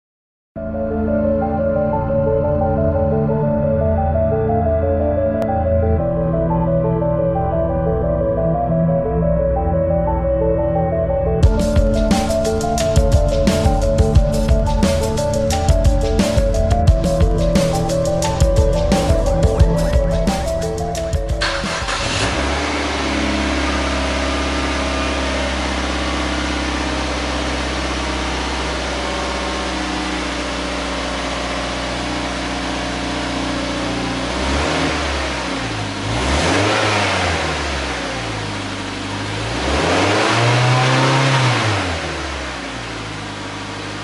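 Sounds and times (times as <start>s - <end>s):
car engine idling: 0.6s - 44.0s
engine revving: 1.1s - 44.0s.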